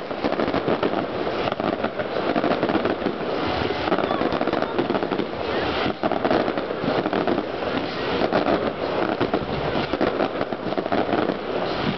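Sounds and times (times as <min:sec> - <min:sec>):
fireworks bangs and crackles: 0:00.0 - 0:11.9.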